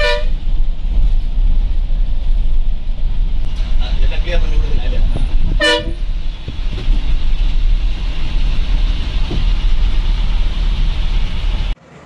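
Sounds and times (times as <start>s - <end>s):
bus engine rumbling: 0.0s - 12.0s
cabin and road noise: 0.0s - 12.0s.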